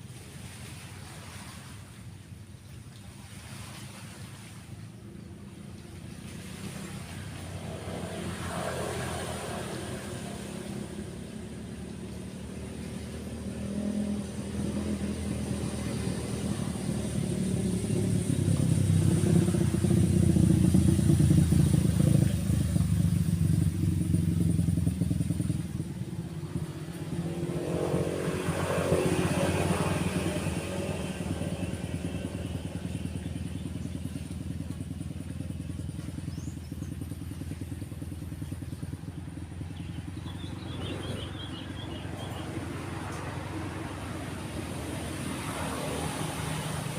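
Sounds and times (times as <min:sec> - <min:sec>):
motorbikes passing: 0:03.3 - 0:46.9.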